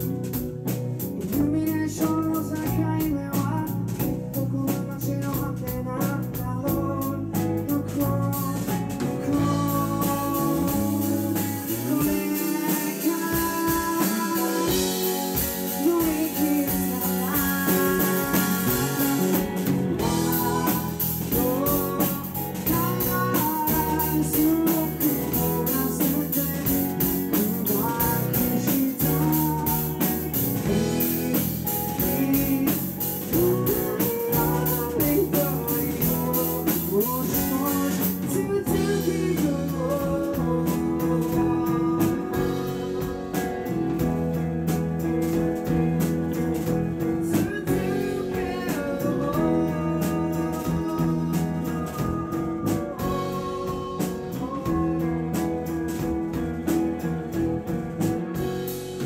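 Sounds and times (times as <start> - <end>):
man singing: 0.0 - 58.5
drum kit: 0.0 - 59.0
electric bass: 0.0 - 59.0
electric guitar: 0.0 - 59.0.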